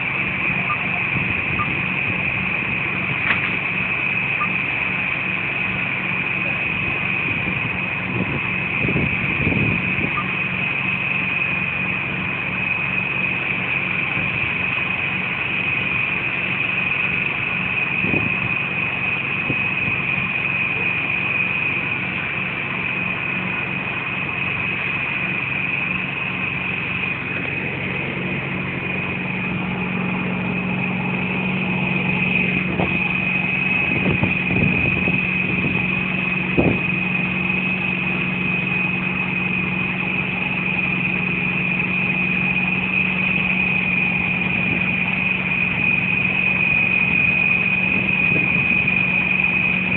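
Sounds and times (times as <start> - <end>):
high-pitched whine: 0.0 - 49.9
vehicle engine idling: 0.0 - 49.9.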